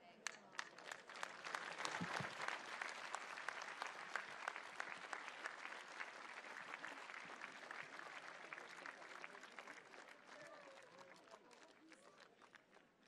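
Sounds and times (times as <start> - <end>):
audience applauding: 0.6 - 13.0.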